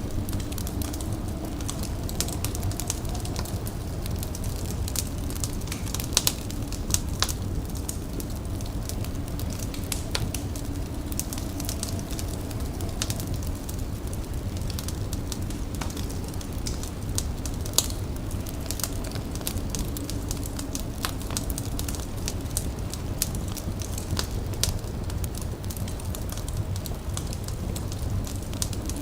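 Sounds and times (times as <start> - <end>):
fire crackling and popping: 0.0 - 29.0
steady low rumble: 0.0 - 29.0.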